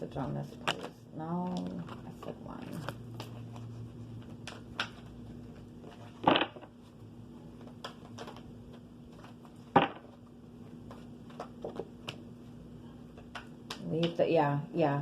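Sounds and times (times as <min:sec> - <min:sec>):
cards shuffled on a table: 0:00.5 - 0:06.9, 0:07.5 - 0:13.8.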